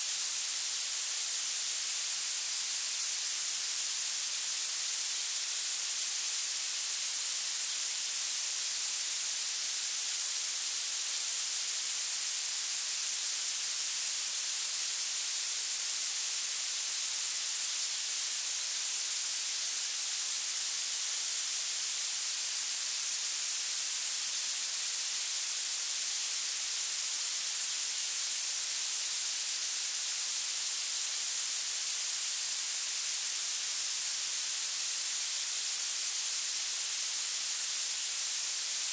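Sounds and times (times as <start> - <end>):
synthetic high-pitched hiss: 0.0 - 38.9.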